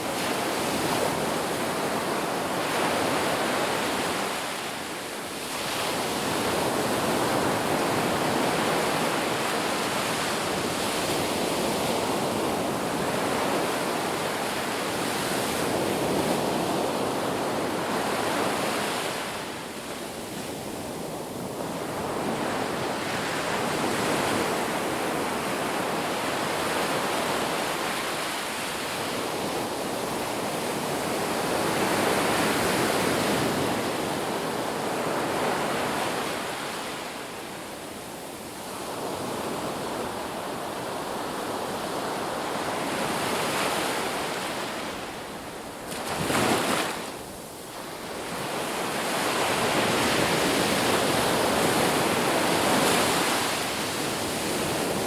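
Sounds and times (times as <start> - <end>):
ocean surf washing onto beach: 0.0 - 55.0.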